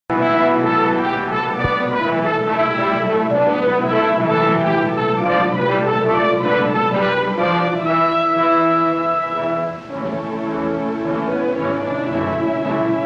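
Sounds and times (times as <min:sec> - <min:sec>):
orchestral brass chords: 0:00.1 - 0:13.0.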